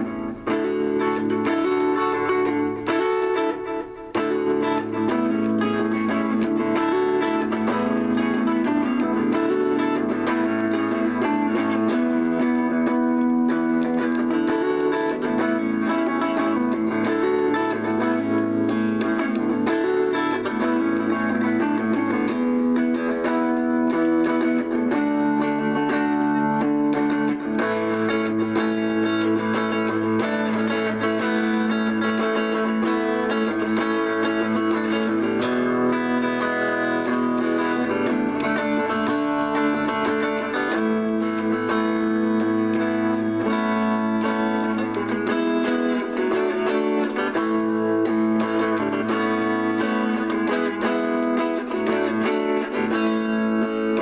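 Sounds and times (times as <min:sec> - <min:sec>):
clean electric guitar playing jazz: 0:00.0 - 0:54.0.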